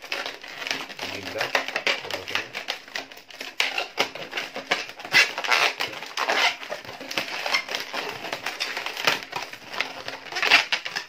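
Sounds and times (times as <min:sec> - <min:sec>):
balloons squeaking and rubbing: 0:00.0 - 0:11.0.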